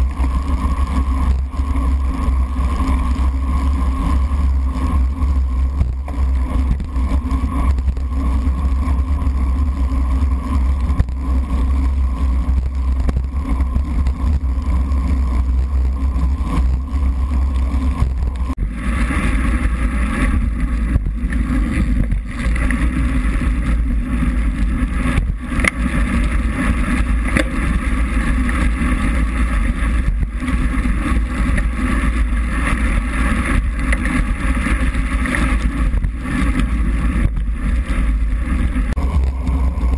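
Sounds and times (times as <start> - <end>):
muffled wind rumble: 0.0 - 39.9
wet road noise: 0.0 - 39.9.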